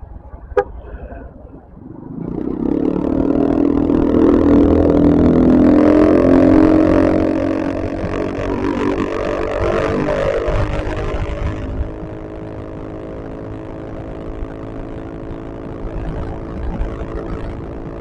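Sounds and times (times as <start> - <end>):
vehicle engine running hard: 0.0 - 18.0.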